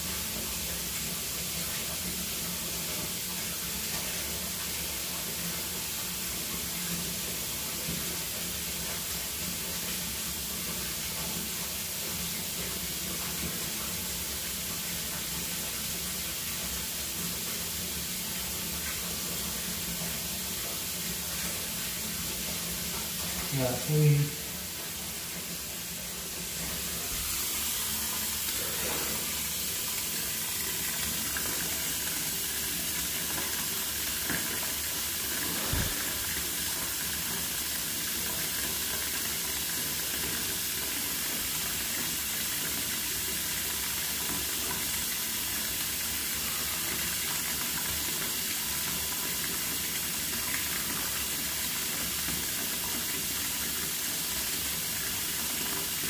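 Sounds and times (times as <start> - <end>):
running water hissing: 0.0 - 56.0.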